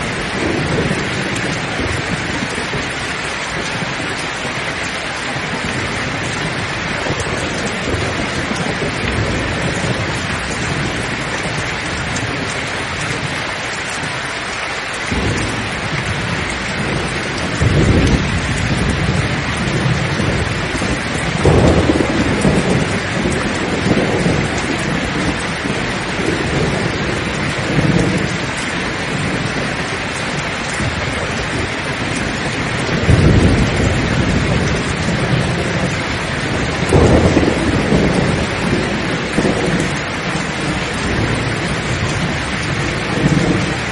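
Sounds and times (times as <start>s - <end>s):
heavy rain hissing: 0.0s - 43.9s
thunder rumbling: 0.0s - 43.9s.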